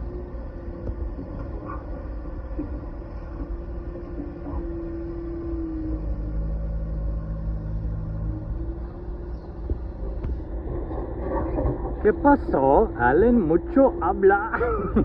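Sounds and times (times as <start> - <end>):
engine rumbling: 0.0 - 15.0
low hum: 0.0 - 15.0.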